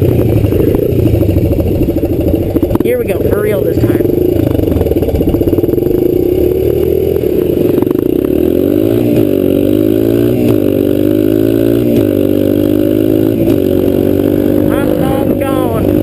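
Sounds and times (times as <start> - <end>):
dirt bike engine accelerating: 0.0 - 16.0.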